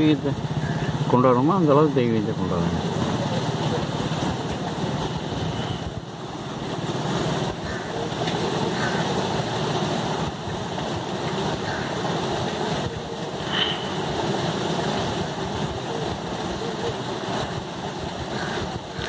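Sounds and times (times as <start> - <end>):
flowing river: 0.0 - 19.0
wind on microphone: 2.8 - 19.0.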